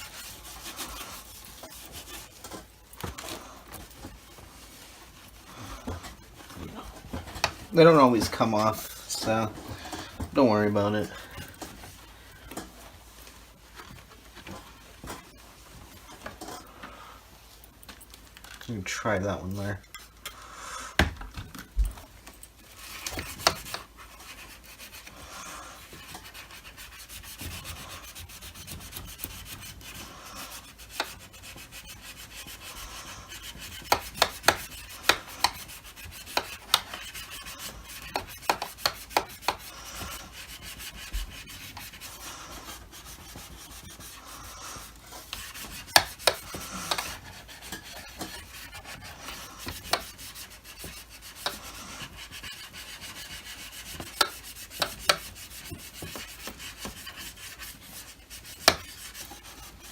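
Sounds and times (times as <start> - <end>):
sponge scrubbing plastic: 0.0 - 16.2, 22.6 - 59.9.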